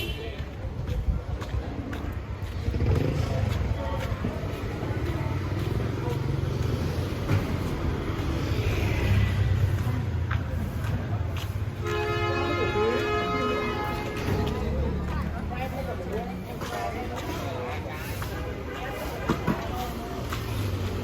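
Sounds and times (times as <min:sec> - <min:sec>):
faint voices: 0:00.0 - 0:21.0
vehicles passing: 0:00.0 - 0:21.0.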